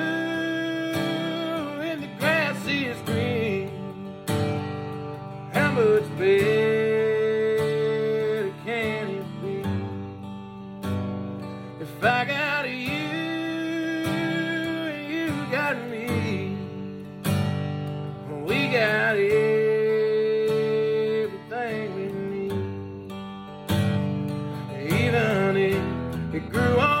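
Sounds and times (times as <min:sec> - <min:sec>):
acoustic guitar: 0:00.0 - 0:27.0.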